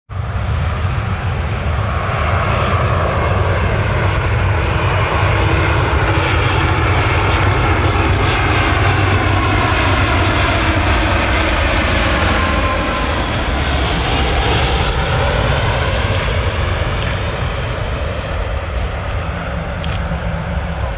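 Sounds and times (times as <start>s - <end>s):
jet airliner roar: 0.1s - 20.9s.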